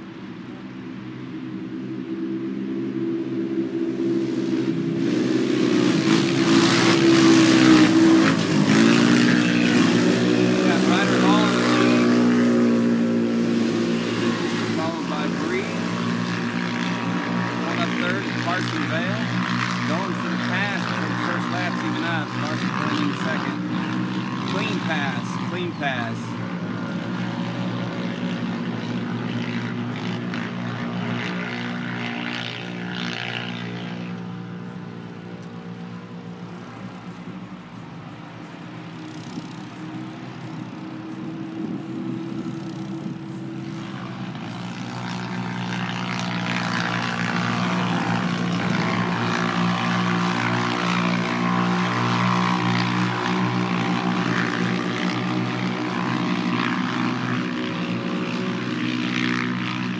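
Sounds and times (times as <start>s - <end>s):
drone propellers humming: 0.0s - 59.9s
race car engines running: 0.0s - 59.9s.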